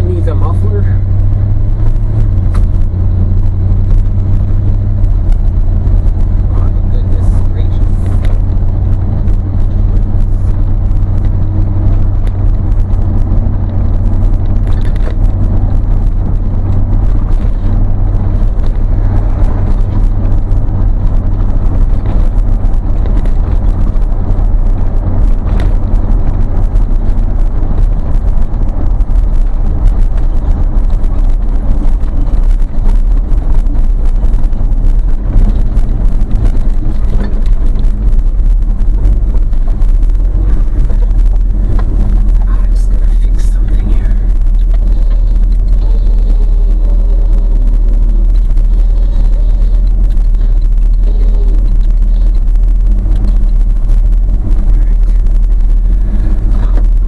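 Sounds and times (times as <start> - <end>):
engine droning at cruise: 0.0 - 57.0
road noise: 0.0 - 57.0.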